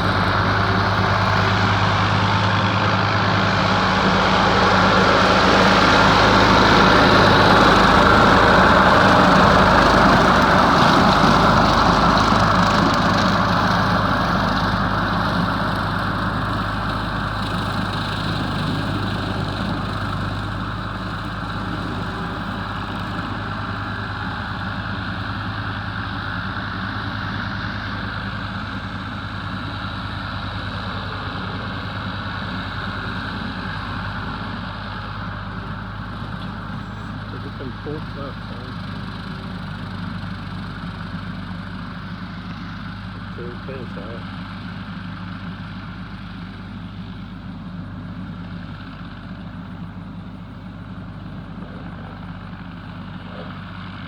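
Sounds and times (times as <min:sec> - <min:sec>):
tractor diesel engine idling: 0:00.0 - 0:54.0.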